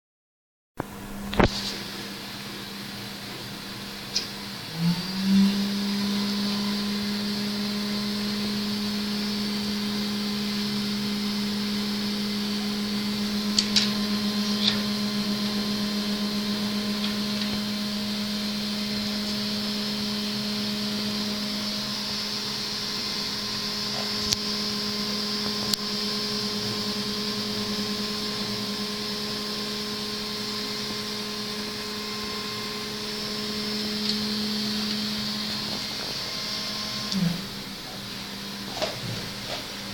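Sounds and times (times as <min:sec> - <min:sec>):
small electric motor humming and whining: 0:03.8 - 0:39.9.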